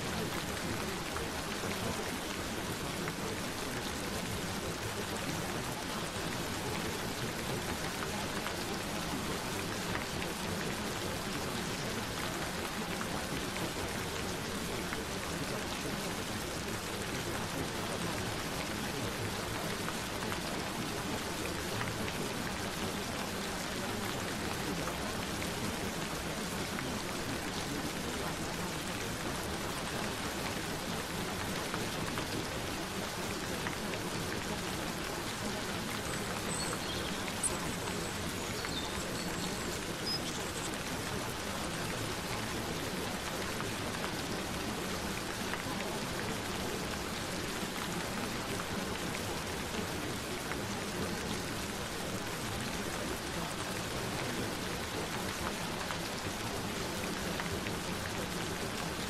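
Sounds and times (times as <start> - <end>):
raindrops pattering: 0.0 - 59.0
steady rain falling: 0.0 - 59.0.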